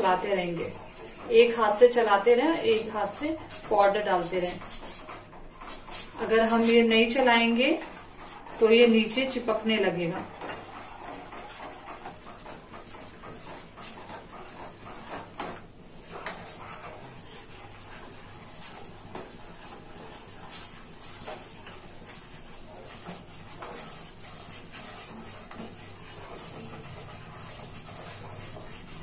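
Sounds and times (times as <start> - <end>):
spoon stirring in steel pot: 0.0 - 29.0.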